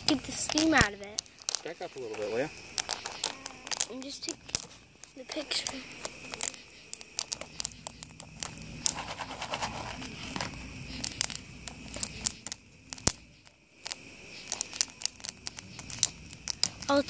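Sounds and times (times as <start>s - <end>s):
popcorn popping: 0.0s - 17.0s
wood fire crackling: 0.0s - 17.0s.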